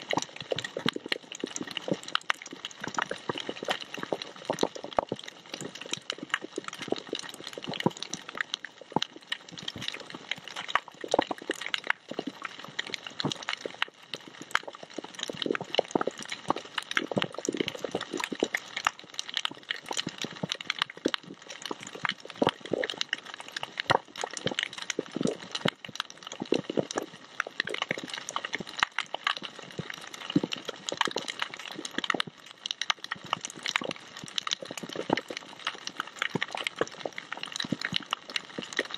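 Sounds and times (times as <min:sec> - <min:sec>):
snapping shrimp clicks and pops: 0:00.0 - 0:38.9.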